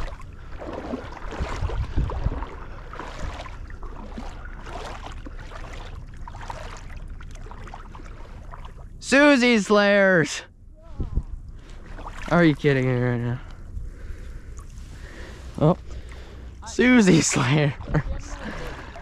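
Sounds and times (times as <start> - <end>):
water sloshing and splashing: 0.0 - 10.0, 10.7 - 19.0.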